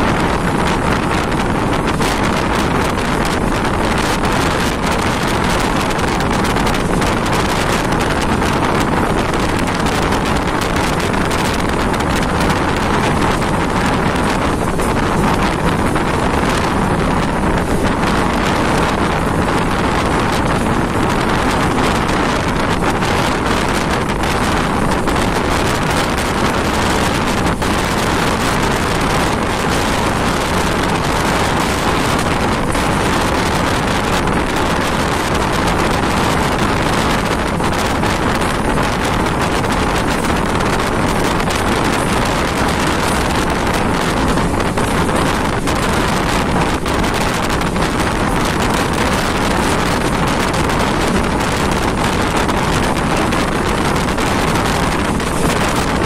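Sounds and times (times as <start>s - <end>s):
train coach running noise: 0.0s - 56.0s.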